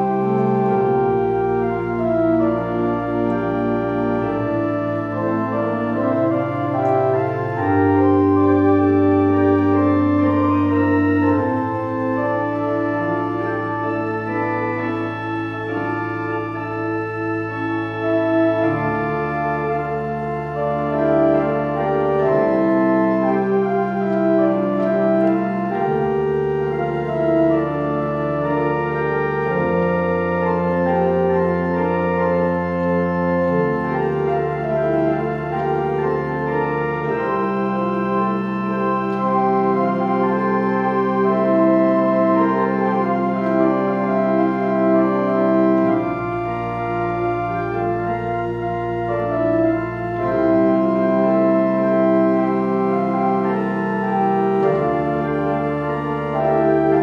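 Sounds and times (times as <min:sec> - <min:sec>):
organ pedal bass notes: 0:00.0 - 0:57.0
pipe organ chords: 0:00.0 - 0:57.0.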